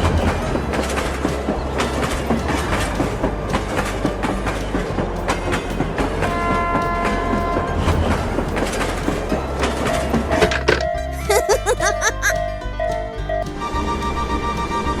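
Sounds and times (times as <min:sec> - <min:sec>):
train wheels clacking over rail joints: 0:00.0 - 0:14.1
low train rumble: 0:00.0 - 0:15.0.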